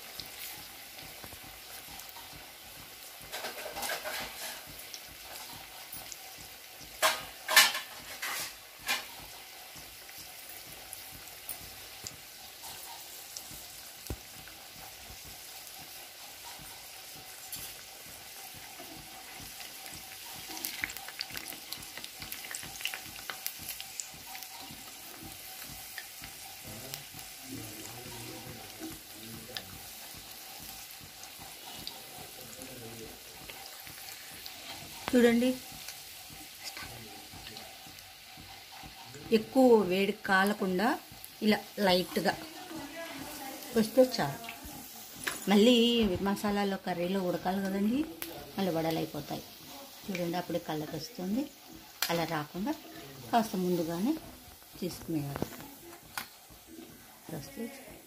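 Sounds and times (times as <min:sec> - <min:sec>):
food deep-frying in sizzling oil: 0:00.0 - 0:58.0.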